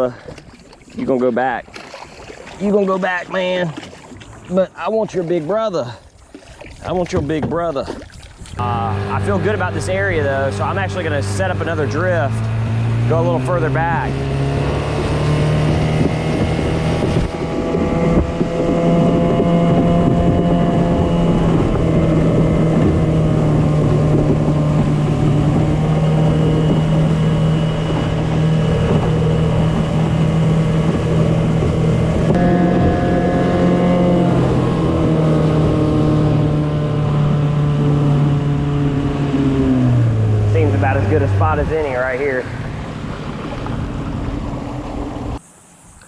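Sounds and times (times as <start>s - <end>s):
outboard motor running: 0.0s - 45.9s
wind on microphone: 6.0s - 46.0s.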